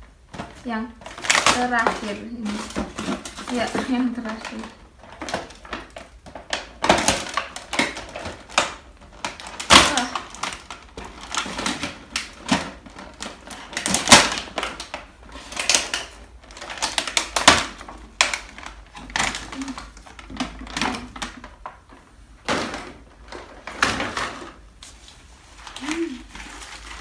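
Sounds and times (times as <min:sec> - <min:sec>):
plastic sleeve crackling: 0:00.1 - 0:27.0.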